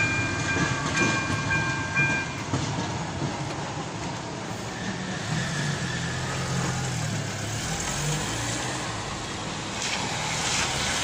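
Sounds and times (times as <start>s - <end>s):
road traffic engines: 0.0s - 11.0s.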